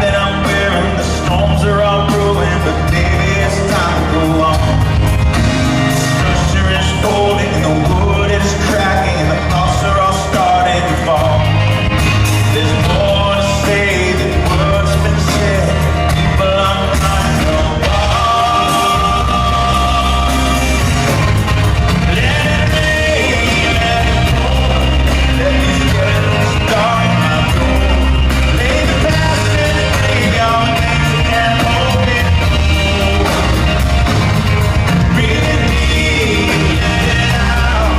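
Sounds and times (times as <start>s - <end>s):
live country-rock band with vocals: 0.0s - 37.9s.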